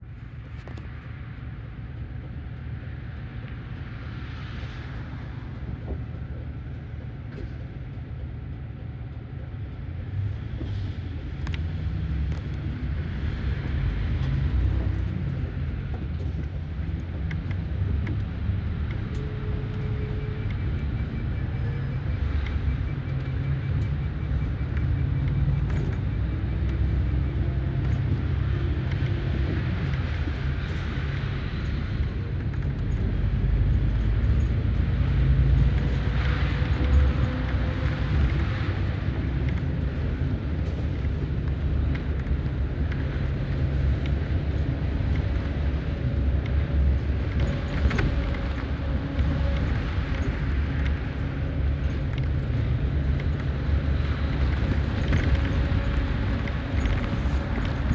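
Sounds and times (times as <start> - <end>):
diesel bus engine: 0.0 - 57.9
road rumble: 0.0 - 57.9.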